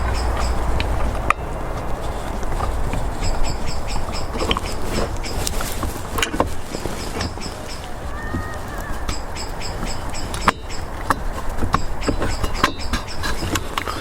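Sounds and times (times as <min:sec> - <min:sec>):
steady low rumble: 0:00.0 - 0:13.1.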